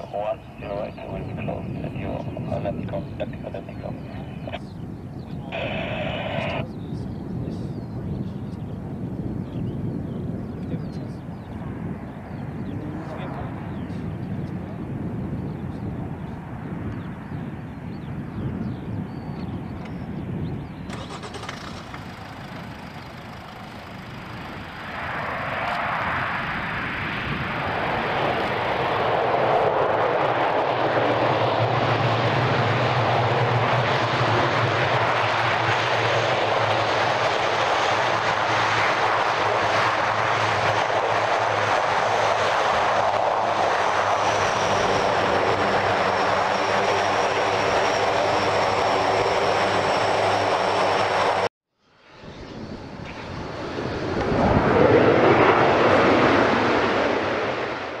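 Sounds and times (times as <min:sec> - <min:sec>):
turboprop engines running: 0:00.0 - 0:58.0.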